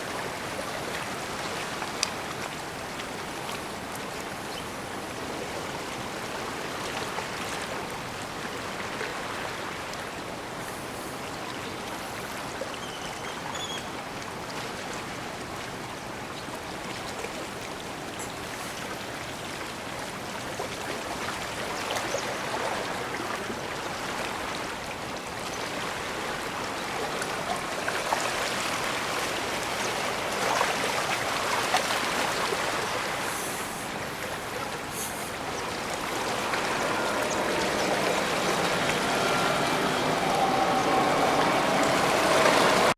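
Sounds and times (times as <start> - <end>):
small waves lapping on shore: 0.0 - 42.9.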